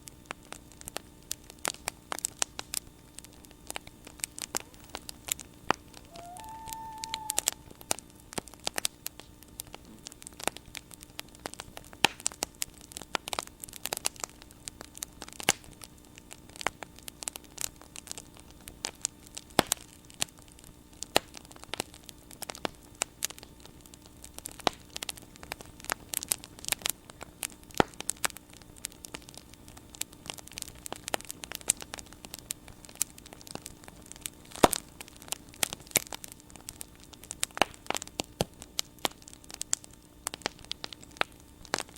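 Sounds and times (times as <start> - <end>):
bonfire crackling and popping: 0.0 - 41.9
faint steady hum: 0.0 - 41.9.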